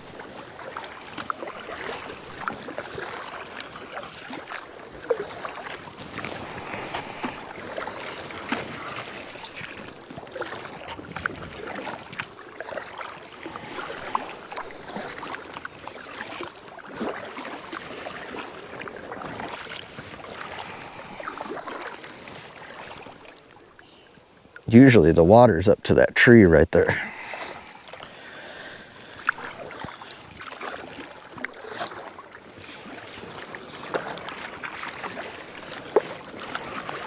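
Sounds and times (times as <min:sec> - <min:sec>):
paddle splashing in water: 0:00.0 - 0:24.6, 0:27.0 - 0:37.0.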